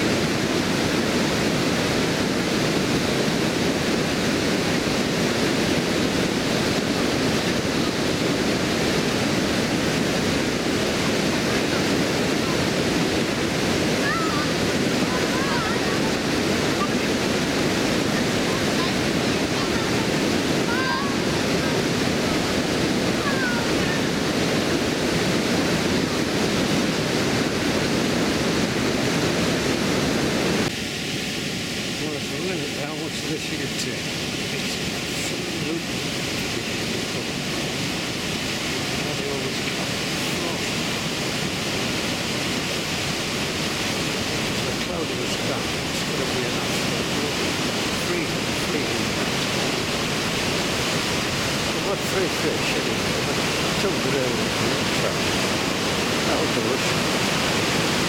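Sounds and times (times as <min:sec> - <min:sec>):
water rushing over a weir: 0:00.0 - 0:58.0.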